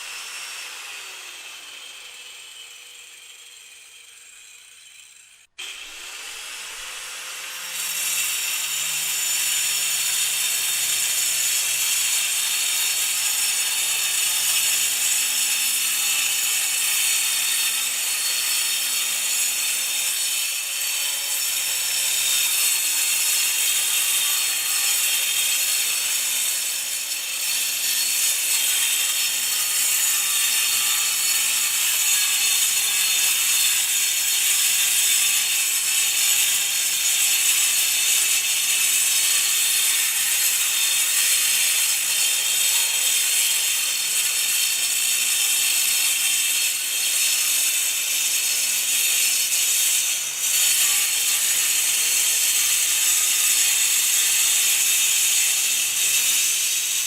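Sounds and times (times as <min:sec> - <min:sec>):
angle grinder cutting concrete: 0:00.0 - 0:57.0.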